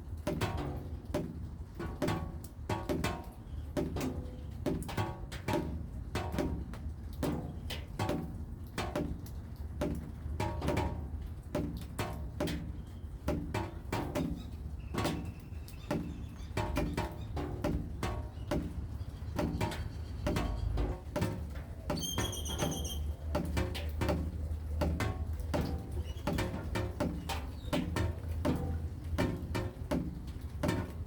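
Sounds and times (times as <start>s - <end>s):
raindrops plinking on surface: 0.0s - 31.0s.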